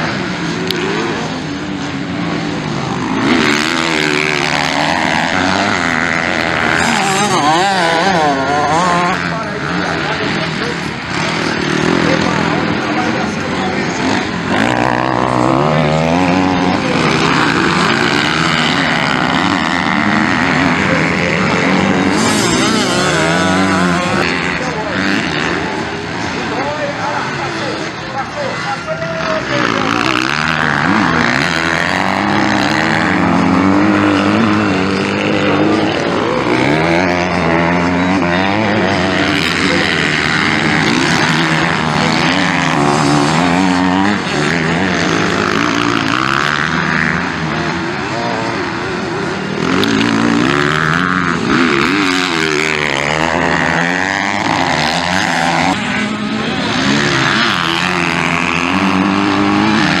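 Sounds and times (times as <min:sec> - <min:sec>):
motocross bike engines revving: 0:00.0 - 1:00.0.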